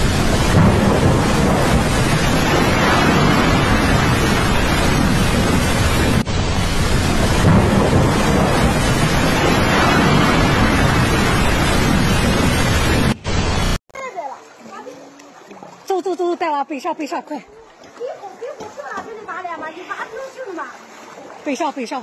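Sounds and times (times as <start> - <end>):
rushing flood water roaring: 0.0 - 22.0.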